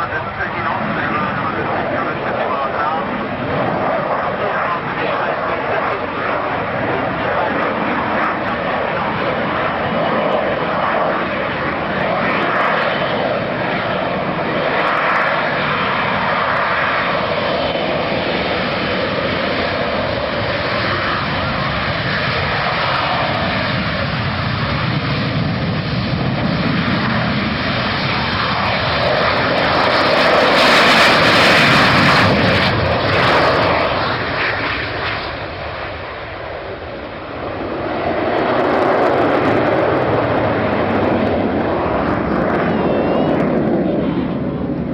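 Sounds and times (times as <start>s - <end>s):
aircraft engine rushing: 0.0s - 44.9s.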